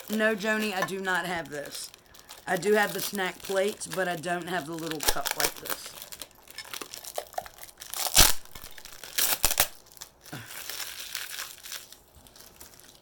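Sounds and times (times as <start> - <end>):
packing wrap crinkling: 0.0 - 13.0
tape tearing: 0.0 - 13.0.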